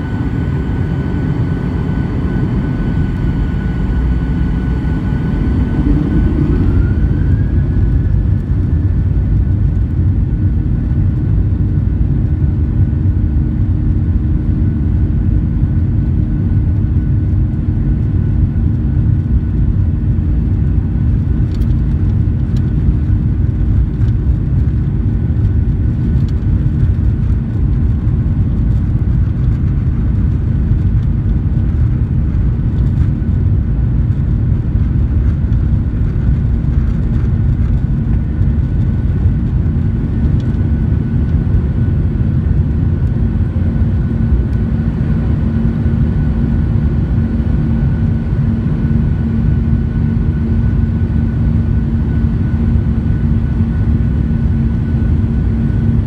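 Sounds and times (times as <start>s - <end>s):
jet engines deep rumble: 0.0s - 56.0s
steady hum: 0.0s - 56.0s.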